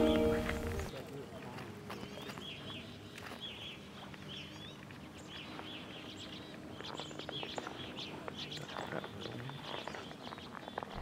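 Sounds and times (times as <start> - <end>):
grosbeaks chirping: 1.9 - 11.0.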